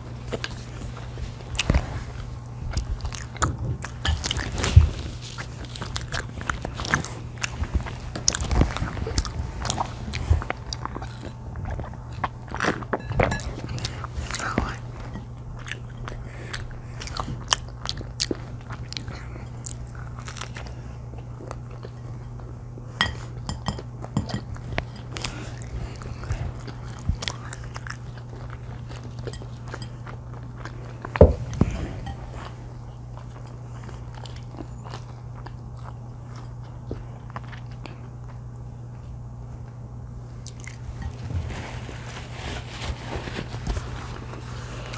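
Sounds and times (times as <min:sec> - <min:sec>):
steady low hum: 0:00.0 - 0:44.9
crunchy food chewing: 0:00.2 - 0:44.9.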